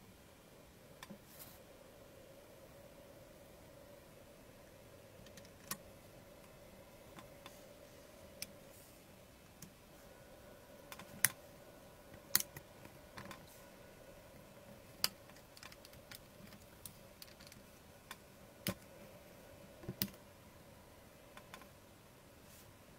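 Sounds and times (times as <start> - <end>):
faint steady hum: 0.0 - 22.9.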